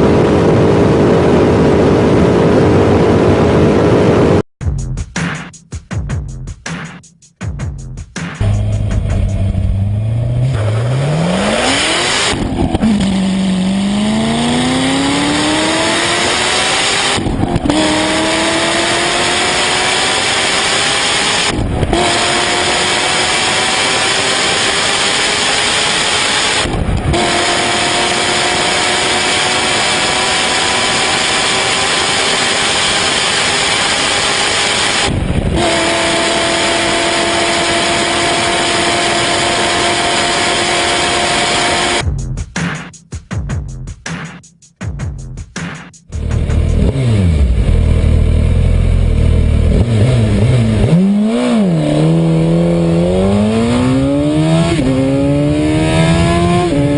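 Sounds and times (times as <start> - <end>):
car engine accelerating through gears: 0.0 - 4.4, 8.4 - 42.0, 46.2 - 56.9.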